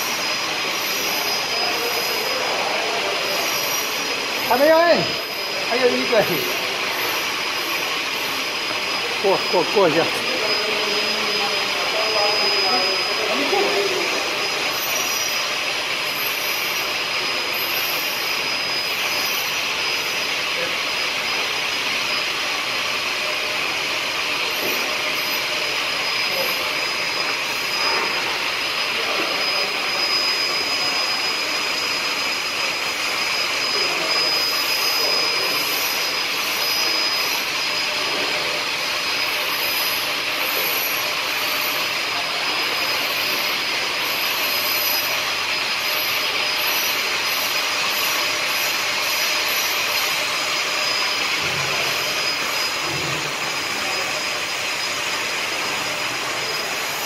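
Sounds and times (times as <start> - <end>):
machine mechanical drone: 0.0 - 57.0
thin high whine: 0.0 - 57.0.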